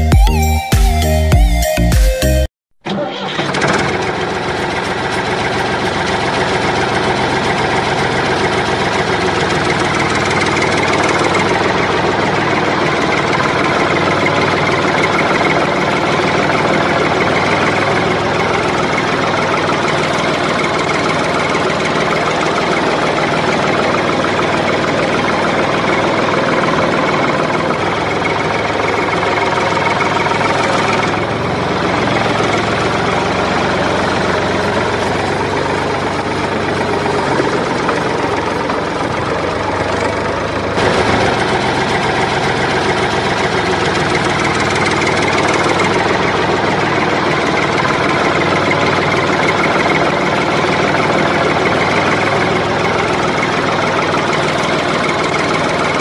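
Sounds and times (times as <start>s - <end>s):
small engine running: 2.9s - 56.0s.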